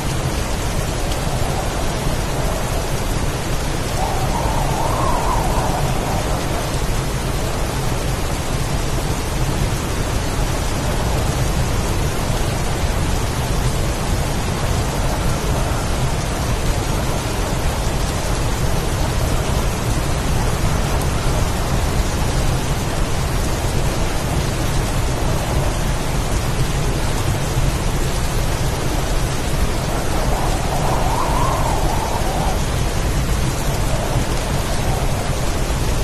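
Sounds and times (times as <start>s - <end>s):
heavy rain hiss: 0.0s - 36.0s.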